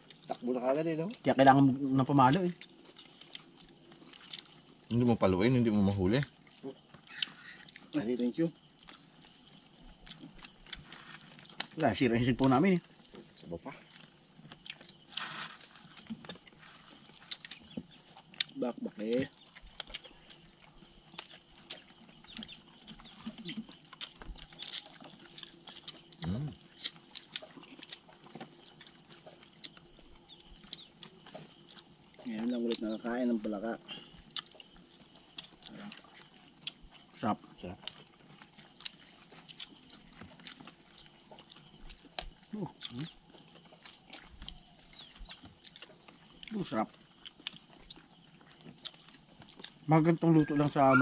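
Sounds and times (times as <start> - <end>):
people chewing and lip smacking: 0.0 - 0.4, 1.1 - 5.1, 5.7 - 33.1, 33.8 - 51.0
faint steady hiss: 0.0 - 51.0.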